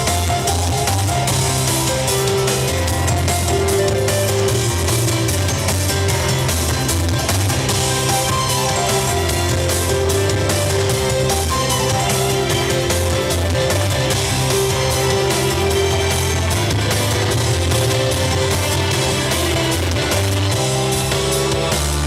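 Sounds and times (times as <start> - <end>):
rock music: 0.0 - 22.0.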